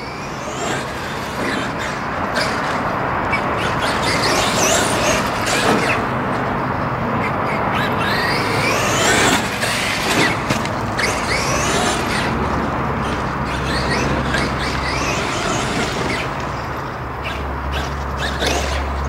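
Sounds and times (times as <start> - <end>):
radio-controlled car motor revving: 0.0 - 19.0.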